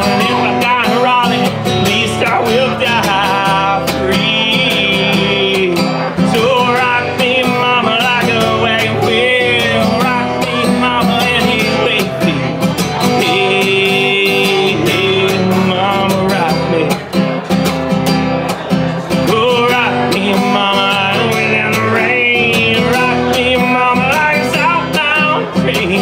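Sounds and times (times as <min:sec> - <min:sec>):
man singing: 0:00.0 - 0:17.4, 0:18.9 - 0:26.0
acoustic guitar strumming: 0:00.0 - 0:26.0.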